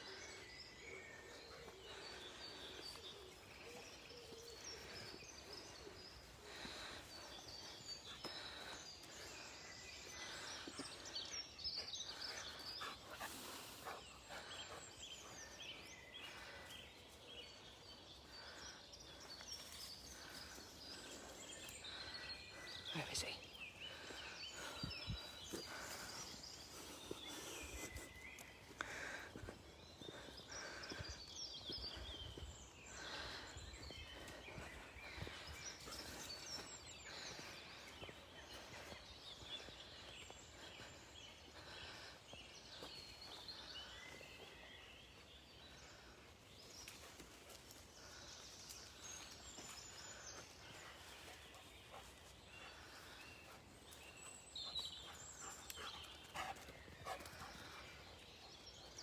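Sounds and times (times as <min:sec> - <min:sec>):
faint outdoor background noise: 0:00.0 - 0:59.0
songbirds singing and chirping: 0:00.0 - 0:59.0.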